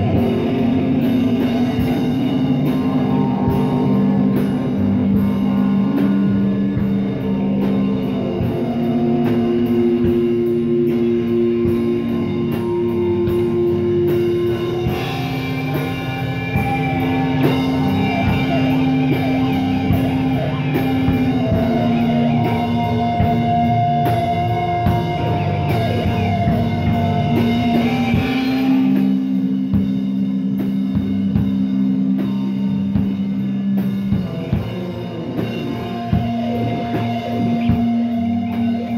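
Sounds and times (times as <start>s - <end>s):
drum kit beat: 0.0s - 38.9s
electric guitar droning notes: 0.0s - 38.9s.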